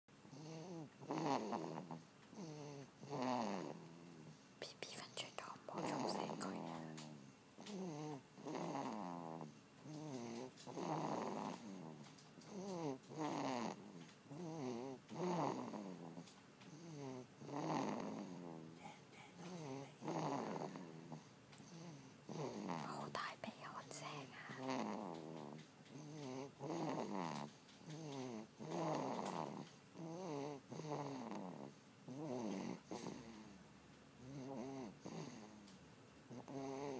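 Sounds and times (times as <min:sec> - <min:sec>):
baby snoring: 0:00.3 - 0:04.4, 0:05.8 - 0:33.6, 0:34.2 - 0:35.7, 0:36.3 - 0:36.9.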